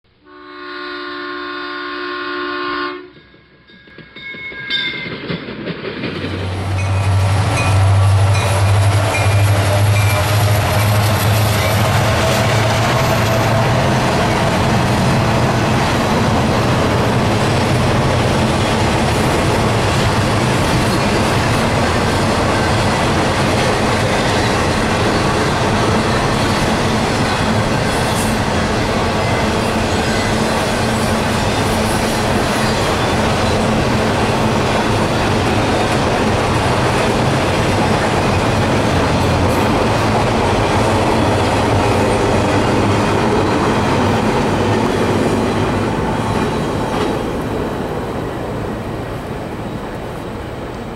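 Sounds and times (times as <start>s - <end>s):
freight train wheels rumbling: 2.9s - 50.9s.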